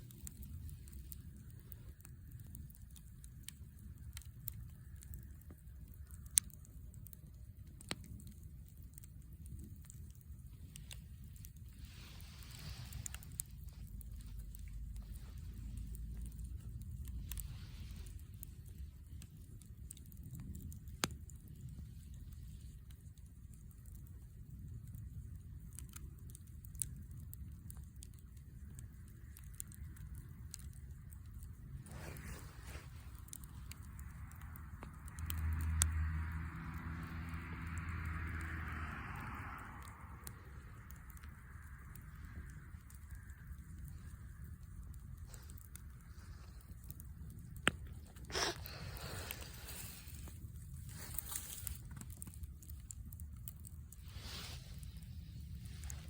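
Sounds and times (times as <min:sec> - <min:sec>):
fire pops and snaps: 0:00.0 - 0:56.0
low steady rumble: 0:00.0 - 0:56.0
wood fire crackling: 0:00.0 - 0:56.0.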